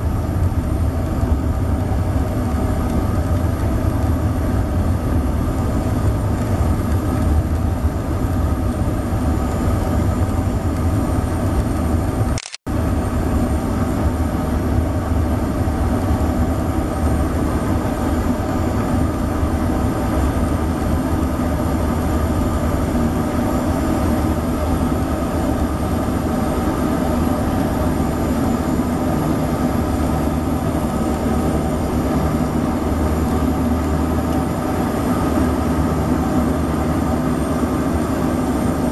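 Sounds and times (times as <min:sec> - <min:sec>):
high turbine whine: 0:00.0 - 0:38.9
turboprop engines droning: 0:00.0 - 0:38.9.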